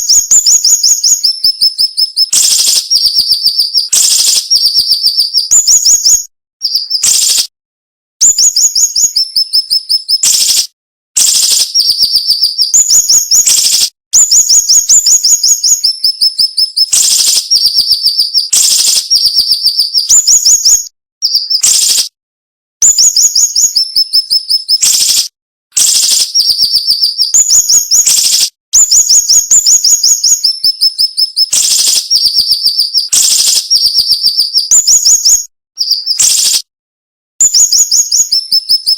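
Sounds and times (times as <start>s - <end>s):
bird singing rapid trills: 0.0s - 7.5s, 8.2s - 10.6s, 11.2s - 22.0s, 22.8s - 36.6s, 37.4s - 38.9s.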